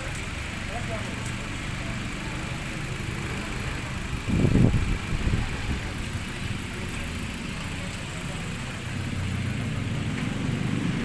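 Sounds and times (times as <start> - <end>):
car engine idling: 0.0 - 11.0
low engine rumble: 0.0 - 11.0.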